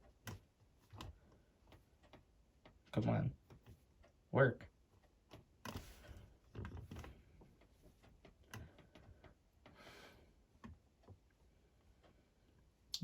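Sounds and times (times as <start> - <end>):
faint handling clicks and knocks: 0.0 - 12.9.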